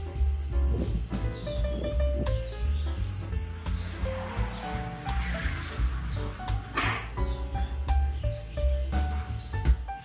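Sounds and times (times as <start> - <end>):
music with pulsing bass beat: 0.0 - 10.0.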